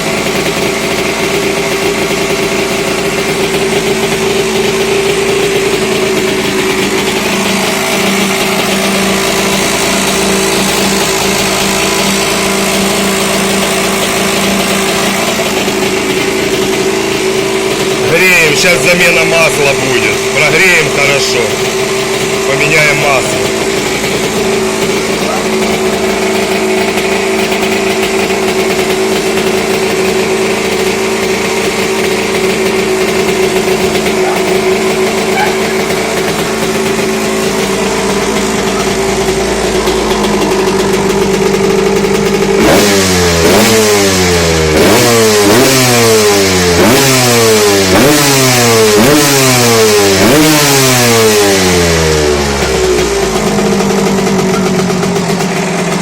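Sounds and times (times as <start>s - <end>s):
motorcycle engine idling: 0.0s - 56.0s
motorcycle engine revving: 0.0s - 56.0s.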